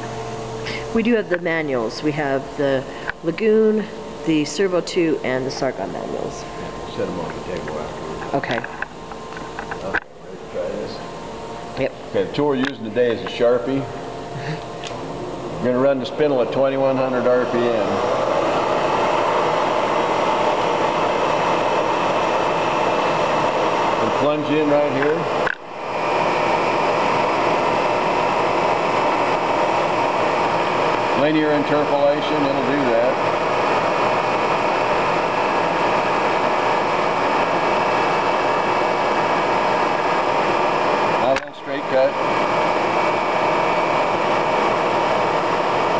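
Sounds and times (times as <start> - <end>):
milling machine spindle running: 0.0 - 45.9.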